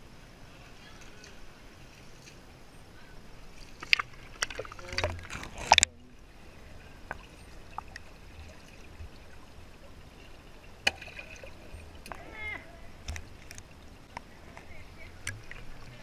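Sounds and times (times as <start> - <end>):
water splashing and gurgling: 0.0 - 16.0.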